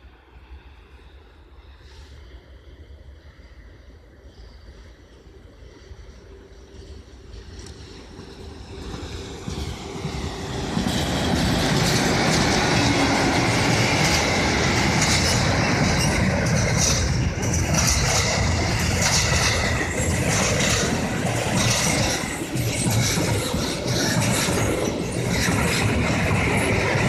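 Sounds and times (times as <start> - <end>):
freight train rumble: 0.0 - 27.0.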